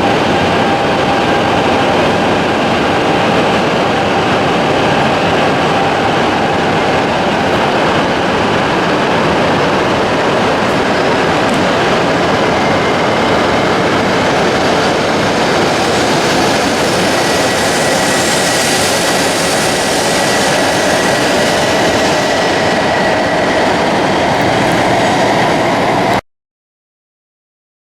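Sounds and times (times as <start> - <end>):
train rushing noise: 0.0 - 26.2.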